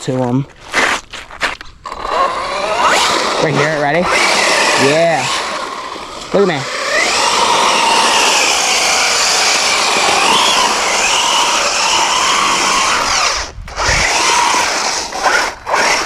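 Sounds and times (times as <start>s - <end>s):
electric motor whining: 1.8s - 16.0s.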